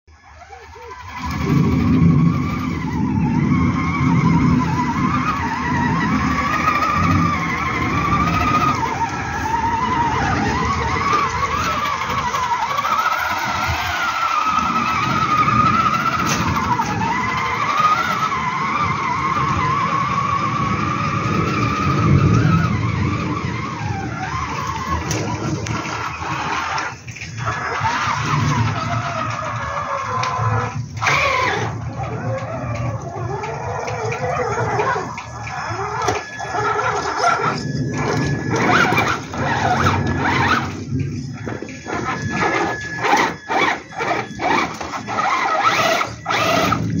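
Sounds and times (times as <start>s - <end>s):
tyres on wet ground: 0.0s - 47.0s
rc truck motor whining: 0.1s - 47.0s.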